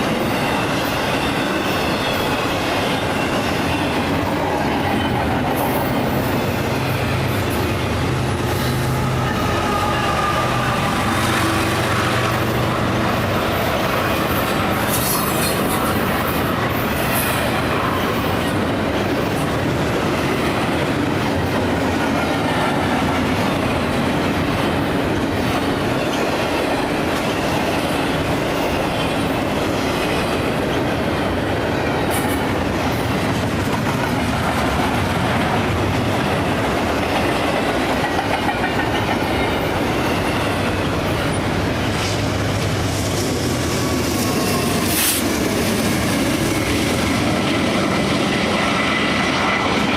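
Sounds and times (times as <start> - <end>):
train wheels rumbling and clattering: 0.0 - 49.9.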